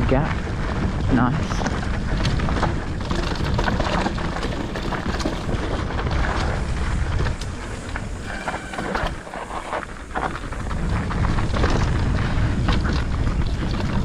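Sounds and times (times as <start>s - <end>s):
bike rattling: 0.0s - 14.0s
tyres rolling over dirt: 0.0s - 14.0s
wind on microphone: 0.0s - 14.0s.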